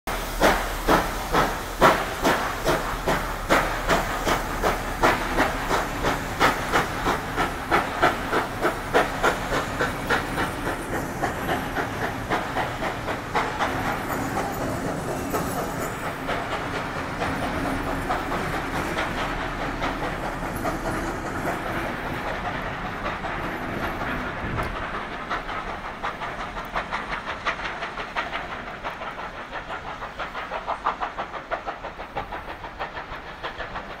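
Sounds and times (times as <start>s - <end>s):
steam hiss: 0.1s - 34.0s
steam locomotive exhaust beats: 0.1s - 34.0s
carriage wheels clickety-clack: 0.4s - 34.0s.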